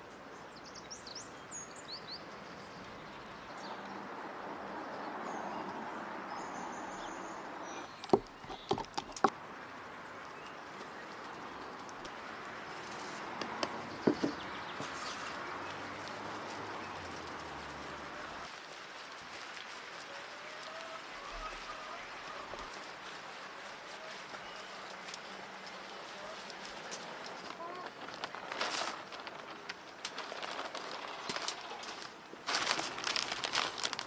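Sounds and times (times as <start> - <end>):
birds chirping: 0.0 - 33.9
background hiss: 0.0 - 34.0.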